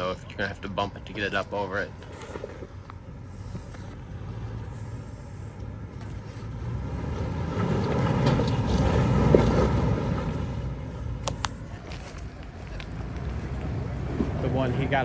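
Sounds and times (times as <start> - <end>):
engine working at crawling speed: 0.0 - 15.0.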